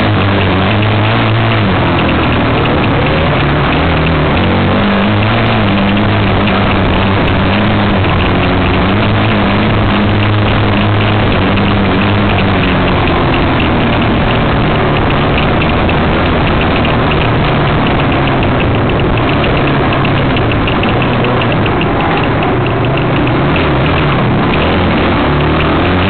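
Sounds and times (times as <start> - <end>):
constant rush of noise: 0.0 - 26.0
dirt bike engine revving: 0.0 - 26.0.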